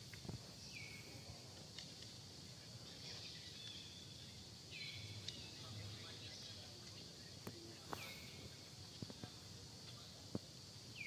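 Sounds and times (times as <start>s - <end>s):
high insect hum: 0.0s - 11.0s.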